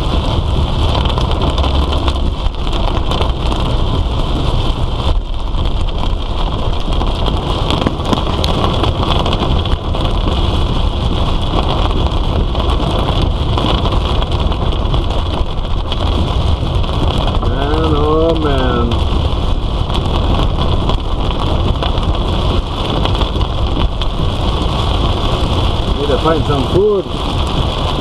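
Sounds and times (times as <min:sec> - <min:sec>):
heavy rain on a car: 0:00.0 - 0:28.0
tyres on wet road: 0:00.0 - 0:28.0
vehicle low rumble: 0:00.0 - 0:28.0.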